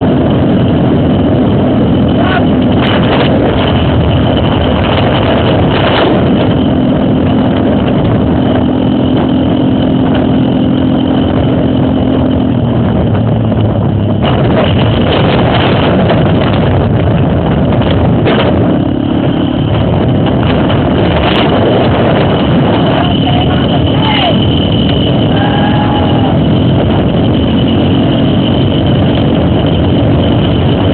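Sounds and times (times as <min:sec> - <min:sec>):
motorcycle engines running: 0:00.0 - 0:30.9.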